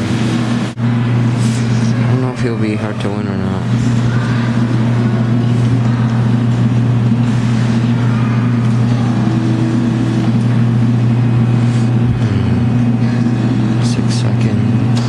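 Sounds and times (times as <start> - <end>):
loud low hum: 0.0 - 15.0.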